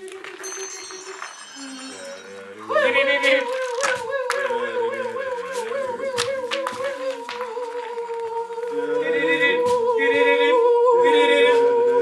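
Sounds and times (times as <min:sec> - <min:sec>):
lower voice singing: 0:00.0 - 0:12.0
voices singing a held note: 0:00.0 - 0:12.0.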